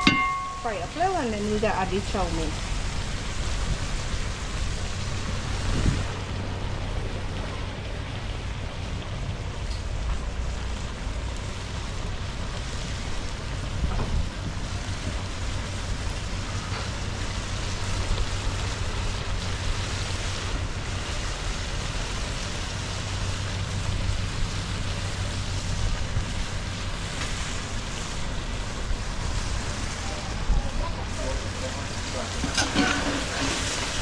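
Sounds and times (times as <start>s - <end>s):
food sizzling in a pot: 0.0s - 6.4s, 9.2s - 34.0s
low steady hum: 0.0s - 34.0s.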